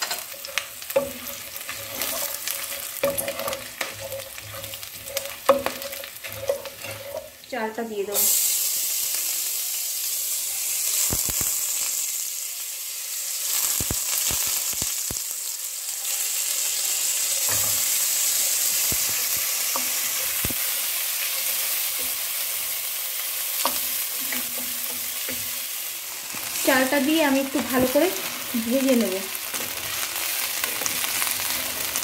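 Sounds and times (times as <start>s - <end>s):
rice sizzling in oil: 0.0s - 32.0s.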